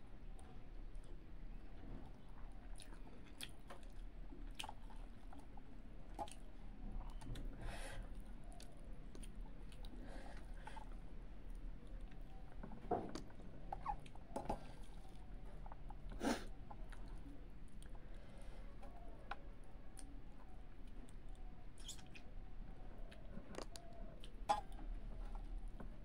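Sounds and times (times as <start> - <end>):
chewing with wet clicks: 0.3 - 26.0.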